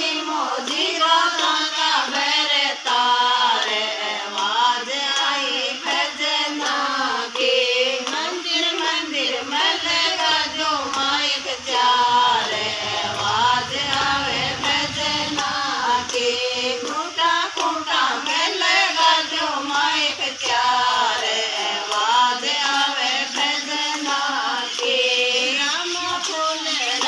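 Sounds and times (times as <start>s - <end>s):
women singing devotional song: 0.0s - 27.0s.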